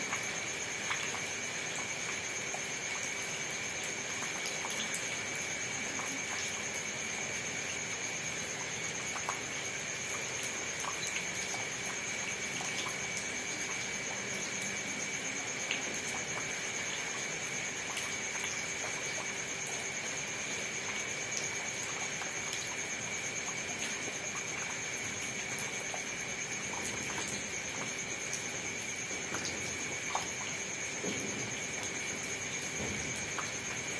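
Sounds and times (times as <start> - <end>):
raindrops ticking: 0.0 - 7.1, 7.7 - 33.9
steady rain hiss: 0.0 - 33.9.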